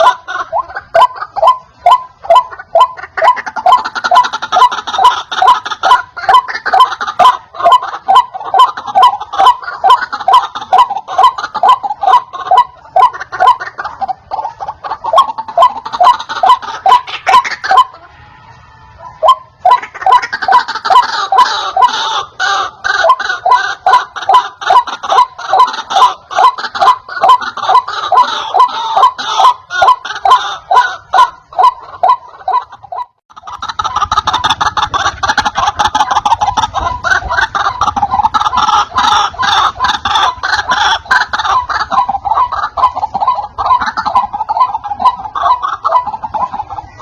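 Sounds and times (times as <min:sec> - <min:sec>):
waterhen calling: 0:00.0 - 0:47.0.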